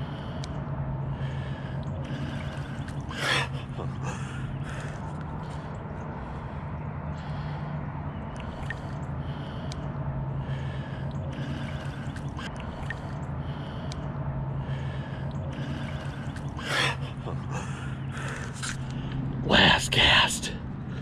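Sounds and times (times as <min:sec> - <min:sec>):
person breathing heavily: 0:00.0 - 0:19.2
steady low hum: 0:00.0 - 0:21.0.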